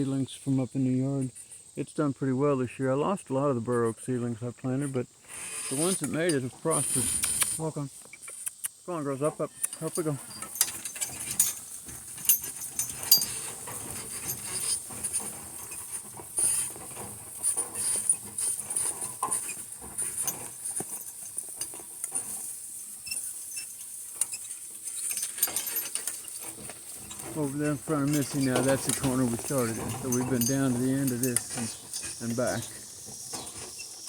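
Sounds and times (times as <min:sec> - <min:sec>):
harness clinking and rattling: 0:05.6 - 0:34.0
donkey hooves clicking: 0:05.8 - 0:34.0.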